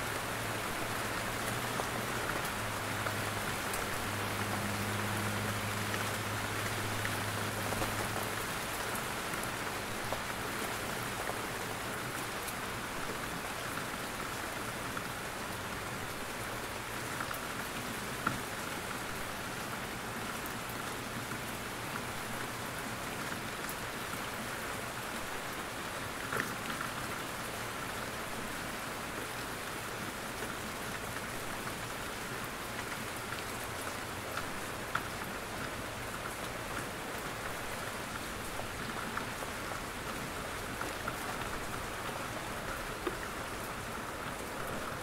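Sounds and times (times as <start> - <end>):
rain on leaves: 0.0 - 45.0.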